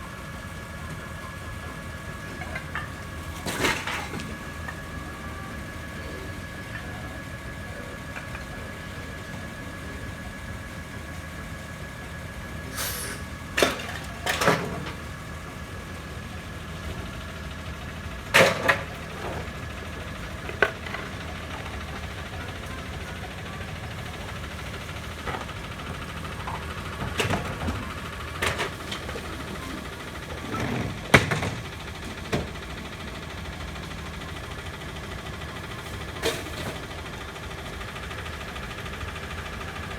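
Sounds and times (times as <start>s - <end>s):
garbage truck idling: 0.0s - 39.9s.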